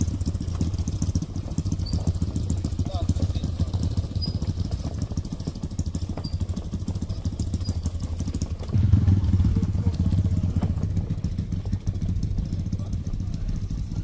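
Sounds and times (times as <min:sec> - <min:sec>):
small motorcycle engines putting: 0:00.0 - 0:14.0.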